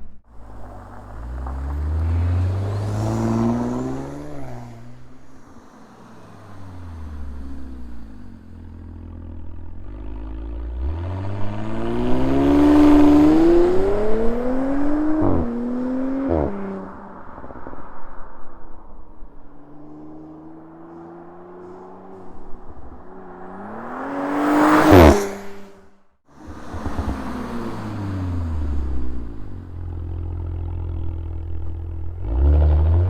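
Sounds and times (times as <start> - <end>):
car engine accelerating: 0.3 - 18.0, 18.8 - 33.0.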